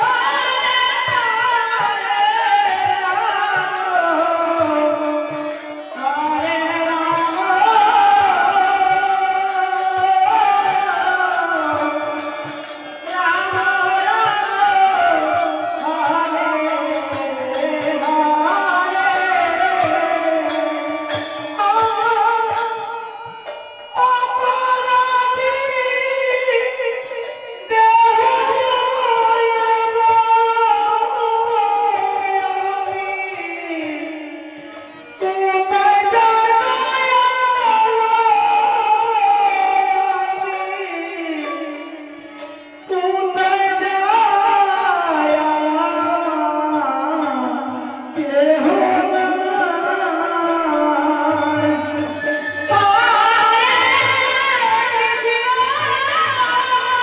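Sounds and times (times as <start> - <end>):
harmonium: 0.0 - 57.0
woman singing: 0.0 - 57.0.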